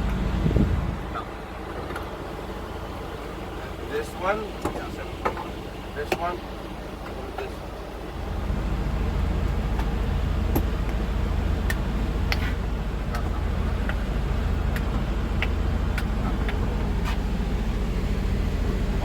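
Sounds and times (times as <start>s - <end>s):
motor pulsing rumble: 0.0s - 19.0s.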